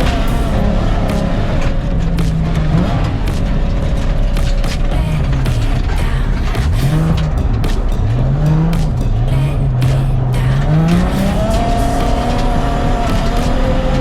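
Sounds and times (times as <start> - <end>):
car engine revving: 0.0 - 14.0
tyre and road noise: 0.0 - 14.0.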